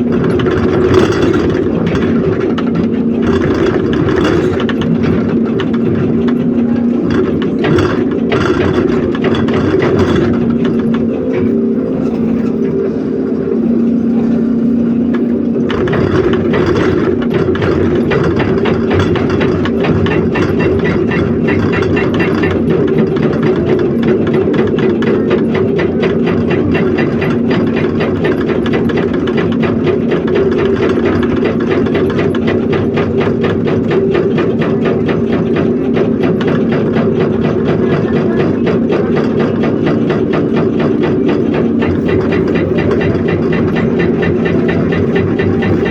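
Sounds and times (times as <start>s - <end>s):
excavator diesel engine running: 0.0s - 45.9s
hydraulic breaker pounding rock: 0.0s - 45.9s.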